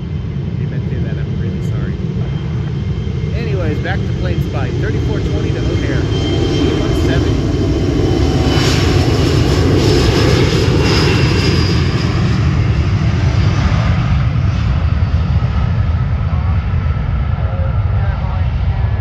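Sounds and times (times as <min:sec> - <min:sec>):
high engine whine: 0:00.0 - 0:19.0
jet engines rumbling: 0:00.0 - 0:19.0.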